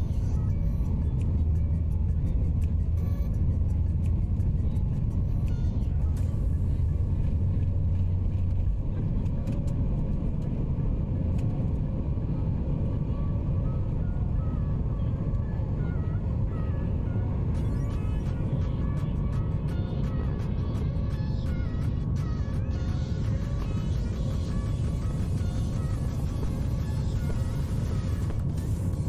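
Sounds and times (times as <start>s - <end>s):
deep hum: 0.0s - 29.0s
vehicle rumble from inside: 0.0s - 29.0s.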